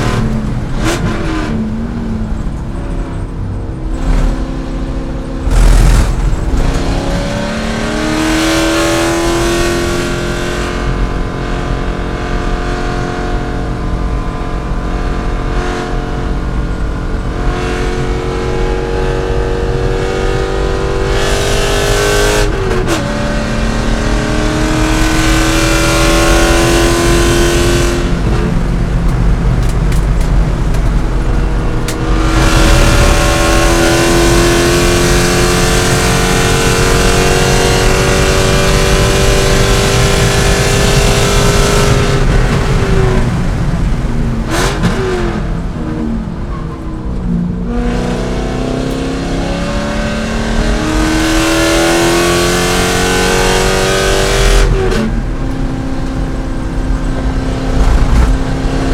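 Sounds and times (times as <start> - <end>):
engine rev blips: 0.0 - 11.6, 17.2 - 45.8, 47.7 - 58.9
race car engine accelerating: 0.0 - 58.9.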